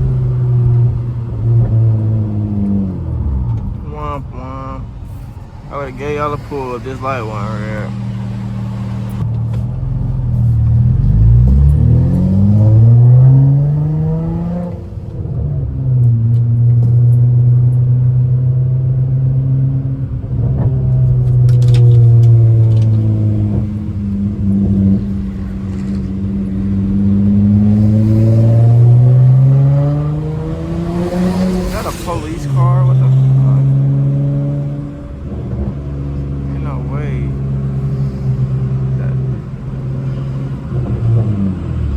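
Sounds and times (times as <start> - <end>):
car exhaust accelerating: 0.0 - 41.9.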